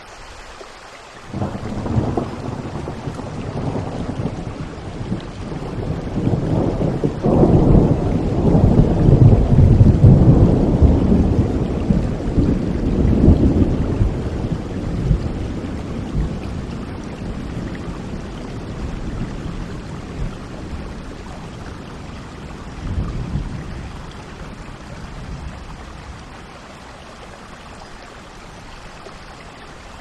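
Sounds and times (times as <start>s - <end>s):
steady rain: 0.0s - 30.0s
rolling thunder rumble: 1.3s - 26.4s.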